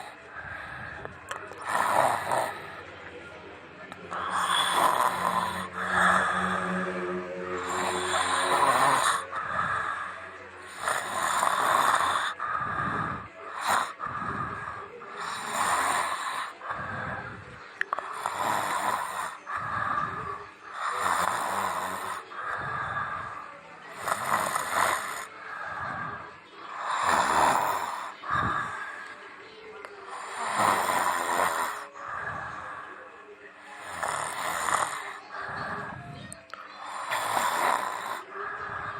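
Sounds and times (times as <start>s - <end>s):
person snoring: 0.0s - 2.9s, 4.1s - 29.2s, 30.1s - 33.0s, 33.8s - 36.2s, 36.8s - 38.9s.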